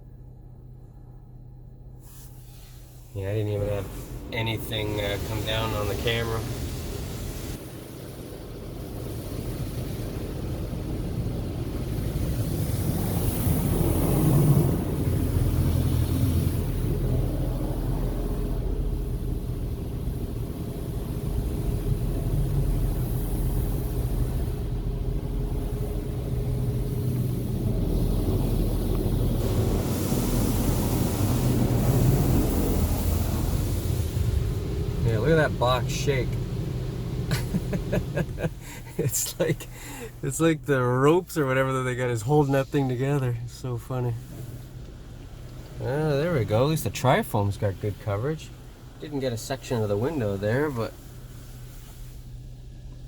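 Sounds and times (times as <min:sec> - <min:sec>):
car wash machinery rumble: 0:00.0 - 0:53.0.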